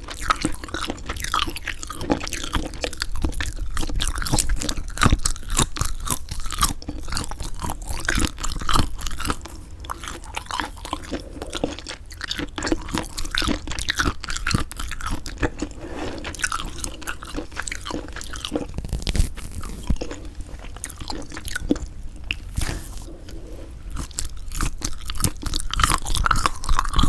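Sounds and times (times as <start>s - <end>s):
chewing dried squid: 0.0s - 27.0s.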